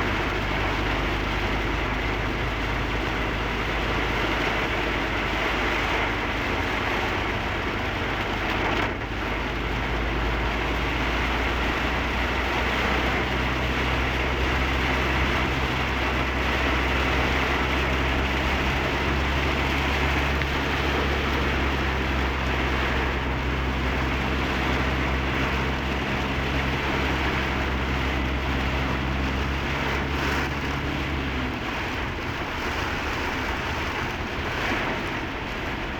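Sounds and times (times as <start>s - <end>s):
heavy rain: 0.0s - 35.9s
low engine hum: 0.0s - 35.9s
road noise from moving vehicle: 0.0s - 35.9s.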